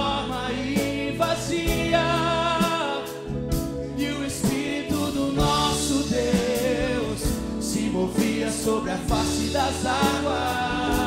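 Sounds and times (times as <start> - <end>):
keyboard: 0.0 - 11.0
man singing worship music: 0.0 - 11.0.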